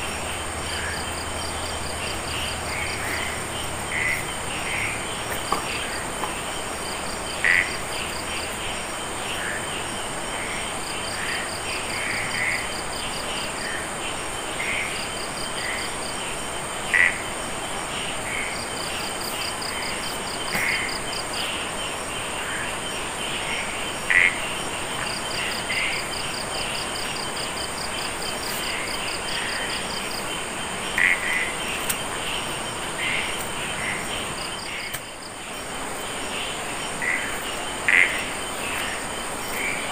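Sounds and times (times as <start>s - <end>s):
frogs croaking: 0.0s - 39.9s
high insect drone: 0.0s - 39.9s.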